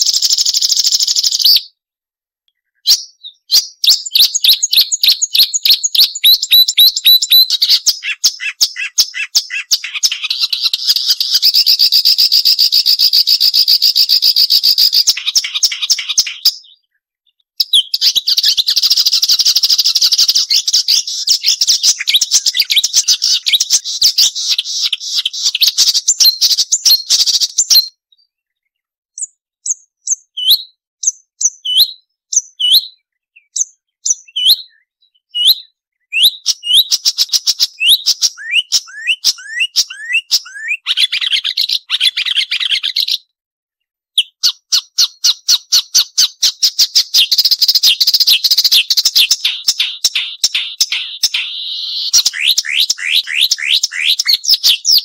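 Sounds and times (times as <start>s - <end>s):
bird scratchy chattering song: 0.0s - 1.7s, 2.8s - 16.8s, 17.6s - 28.0s, 29.2s - 43.2s, 44.2s - 55.0s.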